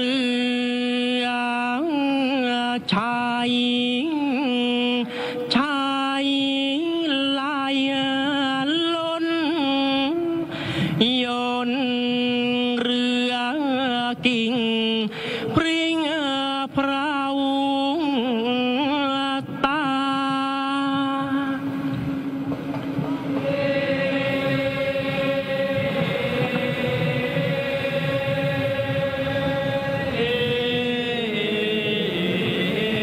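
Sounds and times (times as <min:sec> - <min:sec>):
person singing long notes: 0:00.0 - 0:33.0.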